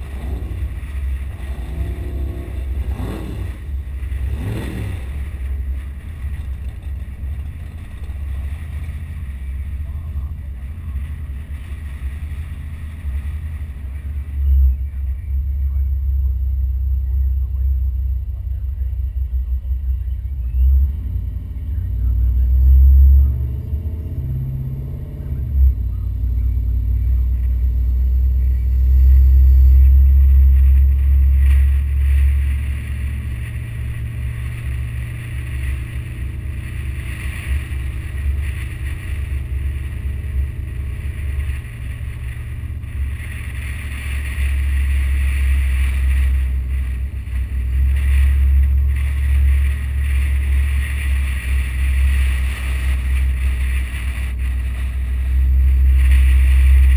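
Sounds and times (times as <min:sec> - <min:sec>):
car engine running: 0:00.0 - 0:56.9
wind rumble on microphone: 0:00.0 - 0:56.9.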